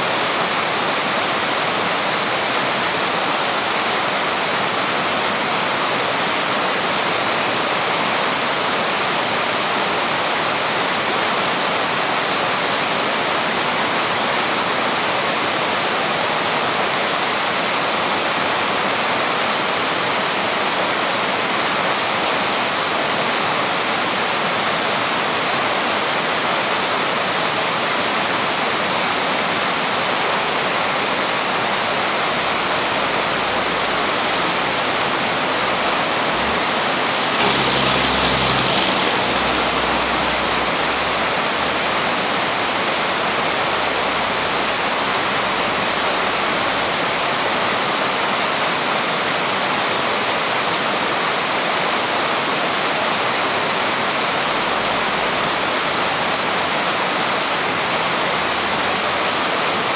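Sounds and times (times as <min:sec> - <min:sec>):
waterfall pouring over rocks: 0:00.0 - 0:59.9.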